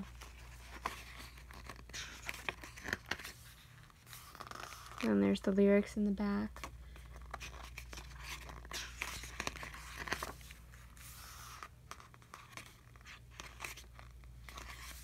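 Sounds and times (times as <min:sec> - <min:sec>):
book pages rustling and turning: 0:00.0 - 0:05.4, 0:06.5 - 0:15.0
low steady hum: 0:00.0 - 0:15.0.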